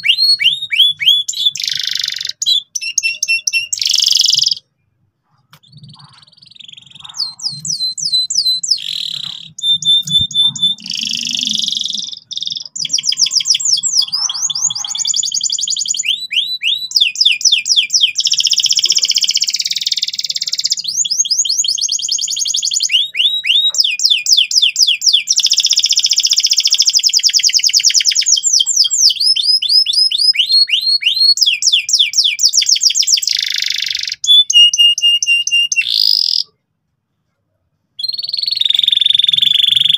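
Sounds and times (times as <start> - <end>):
canary singing trills: 0.0 - 36.6, 38.0 - 39.9.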